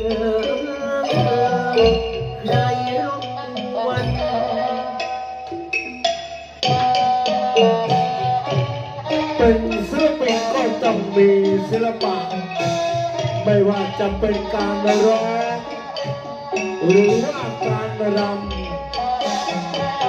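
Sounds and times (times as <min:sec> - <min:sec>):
mallet percussion: 0:00.0 - 0:20.0.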